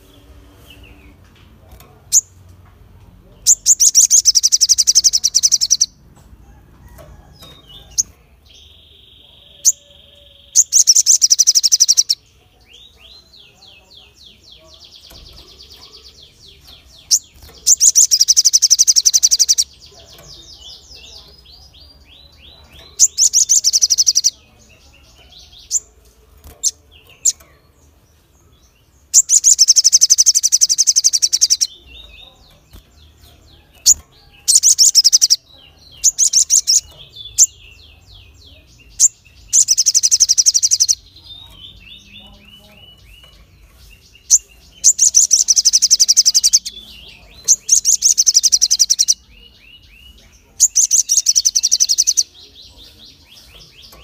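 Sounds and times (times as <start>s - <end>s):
bird singing high rapid trills: 3.4s - 6.0s, 7.0s - 27.5s, 28.6s - 54.0s
bird chirps and chips: 3.4s - 6.1s, 6.8s - 54.0s.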